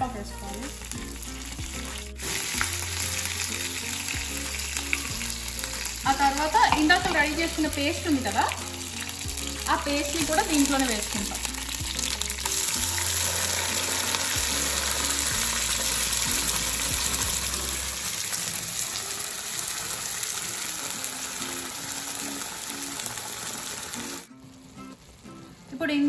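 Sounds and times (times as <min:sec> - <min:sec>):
paste sizzling in hot oil: 0:00.0 - 0:25.5
background music: 0:00.0 - 0:26.0.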